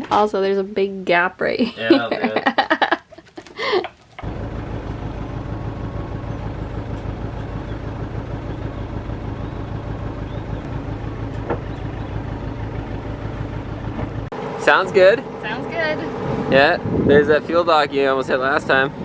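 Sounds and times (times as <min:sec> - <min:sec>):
boat engine throbbing: 0:03.6 - 0:19.0.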